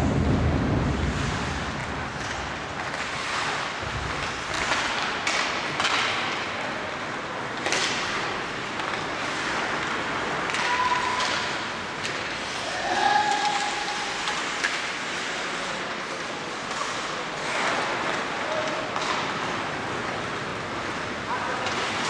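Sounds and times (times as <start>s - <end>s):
skates scraping ice: 0.2s - 22.0s
sticks striking puck: 1.8s - 6.8s, 7.5s - 20.2s, 21.5s - 22.0s.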